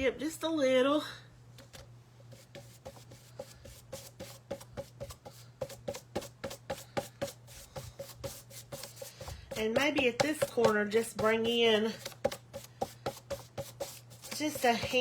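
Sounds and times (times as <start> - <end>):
faint steady hum: 0.0 - 15.0
paintbrush scrubbing on board: 2.3 - 15.0.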